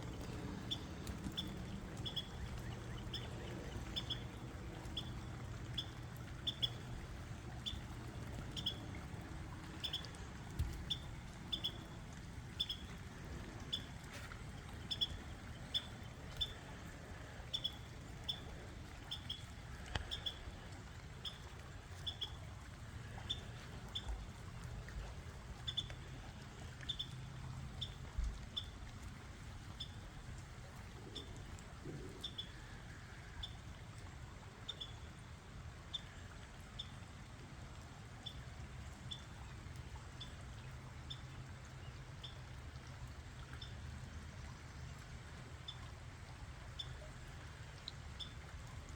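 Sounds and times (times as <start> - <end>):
low hum and hiss: 0.0 - 48.9.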